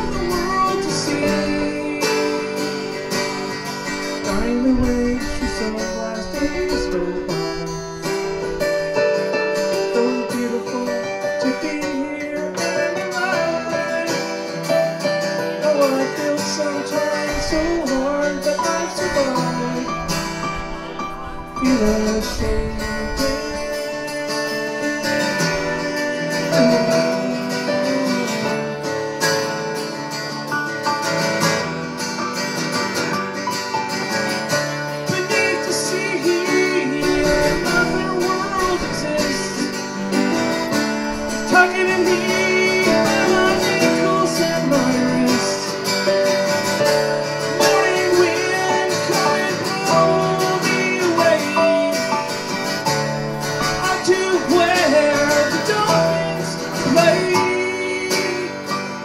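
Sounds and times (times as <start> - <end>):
acoustic guitar strumming: 0.0 - 59.0
electric keyboard: 0.0 - 59.0.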